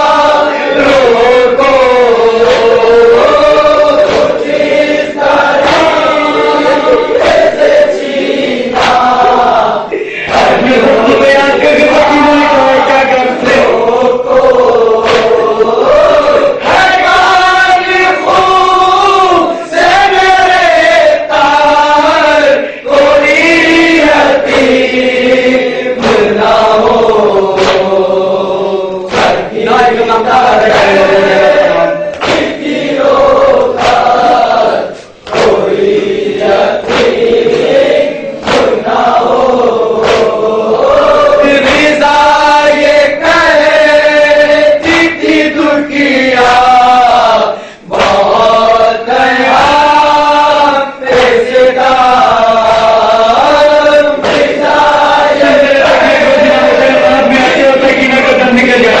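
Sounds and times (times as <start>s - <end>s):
men chanting a lament: 0.0s - 59.0s
sharp slaps: 0.0s - 59.0s.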